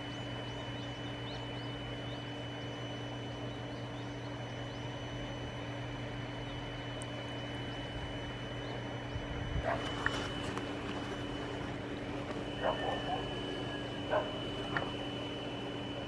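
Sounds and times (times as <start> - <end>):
machine drone with high whine: 0.0 - 16.0.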